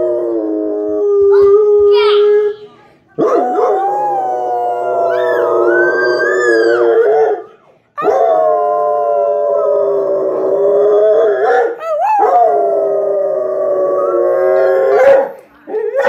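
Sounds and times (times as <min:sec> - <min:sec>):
dog howling: 0:00.0 - 0:02.6, 0:03.2 - 0:16.0.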